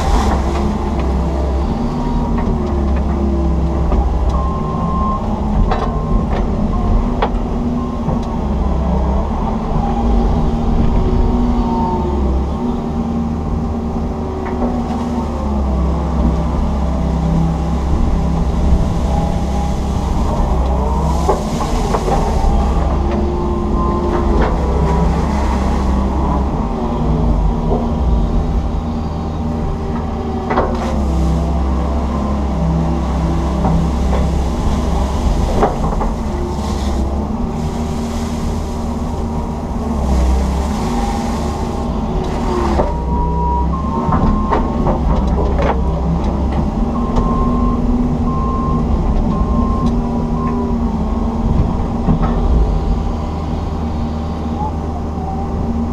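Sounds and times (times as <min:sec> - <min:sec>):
excavator engine hum: 0:00.0 - 0:55.9.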